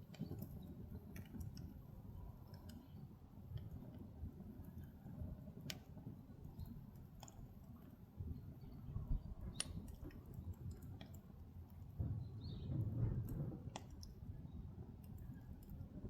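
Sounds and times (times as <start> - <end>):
fire rumbling: 0.0 - 16.0
firewood crackling and popping: 0.0 - 16.0.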